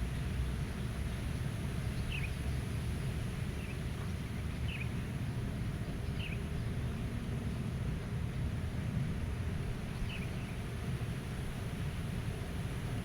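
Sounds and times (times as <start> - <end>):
low rumble of wind: 0.0 - 13.0.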